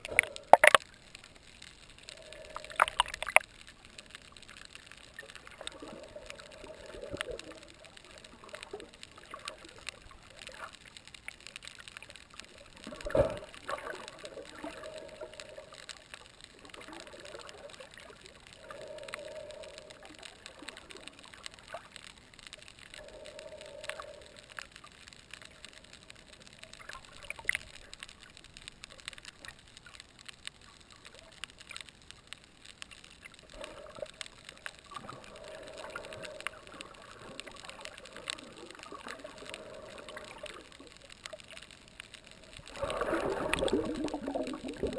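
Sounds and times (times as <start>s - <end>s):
water movement swells: 0.0s - 30.4s, 32.7s - 44.9s
crackling clicks: 0.0s - 44.9s
underwater water noise: 0.0s - 44.9s.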